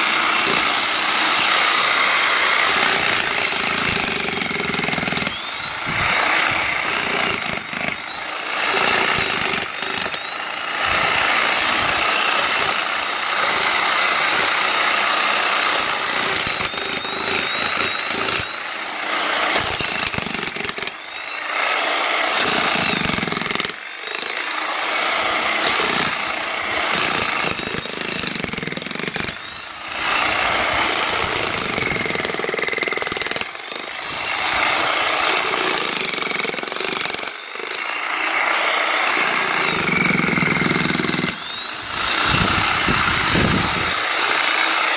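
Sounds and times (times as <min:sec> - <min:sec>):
jackhammer hammering: 0:00.0 - 0:44.9.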